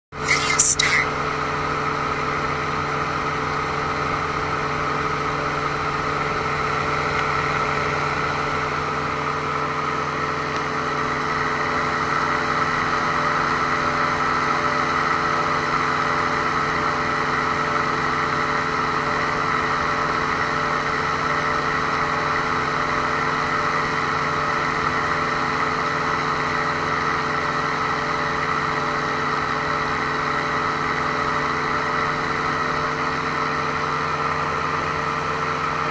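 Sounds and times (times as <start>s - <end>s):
aircraft engine and propeller drone: 2.5s - 35.9s.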